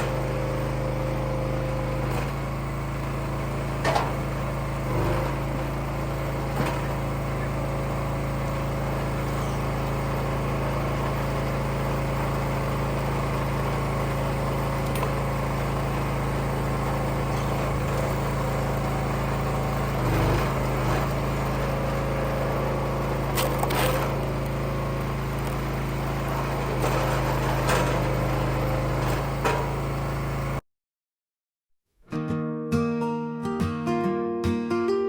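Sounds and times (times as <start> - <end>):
log splitter engine running: 0.0 - 30.6.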